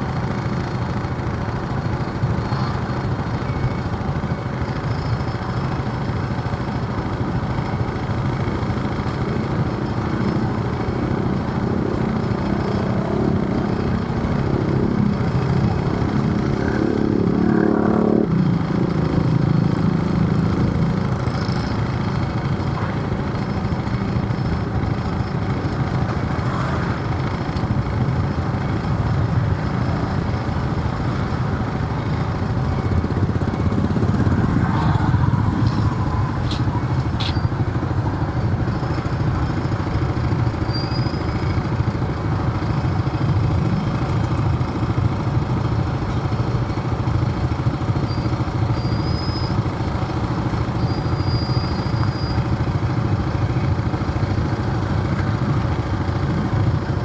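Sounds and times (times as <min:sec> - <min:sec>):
city traffic noise: 0:00.0 - 0:57.0
vehicle engine running: 0:00.0 - 0:57.0.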